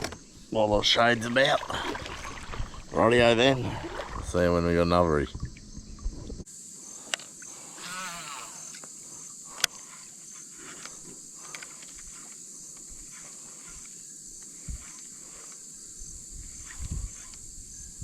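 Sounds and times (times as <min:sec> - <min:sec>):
pulsing insect drone: 0:00.0 - 0:18.0.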